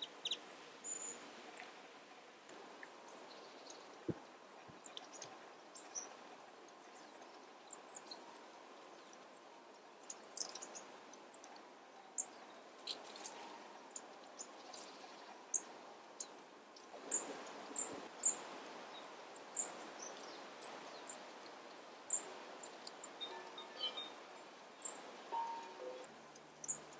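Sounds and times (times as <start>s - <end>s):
faint steady hiss: 0.0s - 26.9s
small birds chirping: 0.0s - 26.9s.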